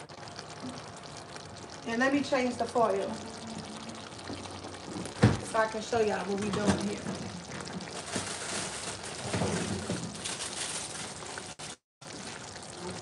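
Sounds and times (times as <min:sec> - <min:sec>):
chili simmering and sizzling: 0:00.0 - 0:13.0.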